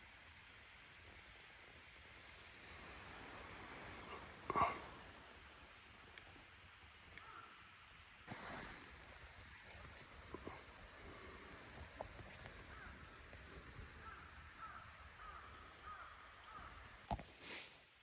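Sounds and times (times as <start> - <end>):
soft steady hiss: 0.0 - 18.0.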